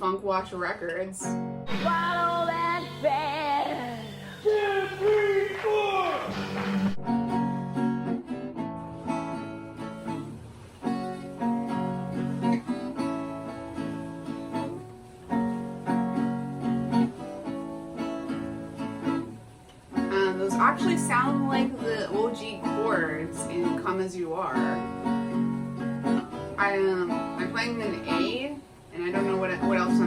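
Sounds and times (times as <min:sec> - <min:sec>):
acoustic guitar strumming: 0:00.2 - 0:30.0.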